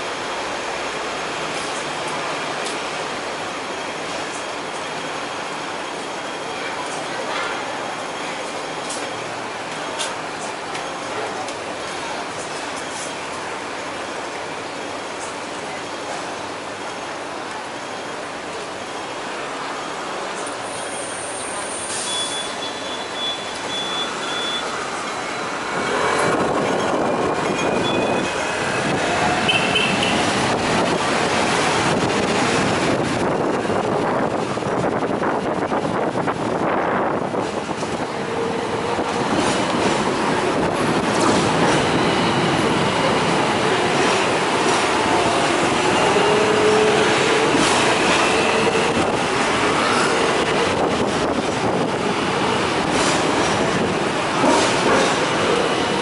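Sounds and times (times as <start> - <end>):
tram wheels rumbling on rails: 0.0 - 56.0.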